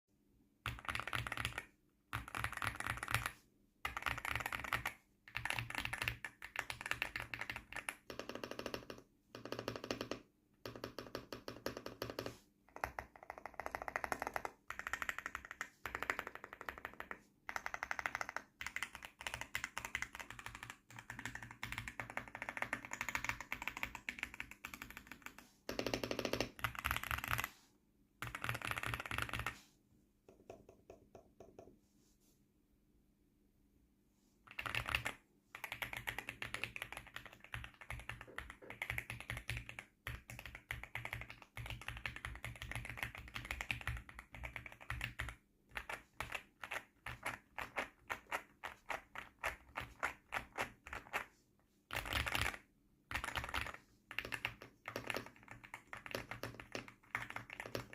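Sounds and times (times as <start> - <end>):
mechanical keyboard typing: 0.6 - 27.5, 28.2 - 29.6, 34.5 - 51.3, 51.9 - 57.9.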